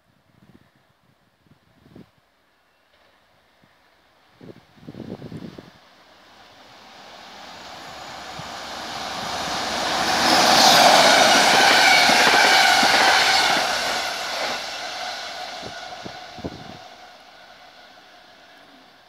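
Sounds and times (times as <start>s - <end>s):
train passing rumble: 2.9s - 19.0s.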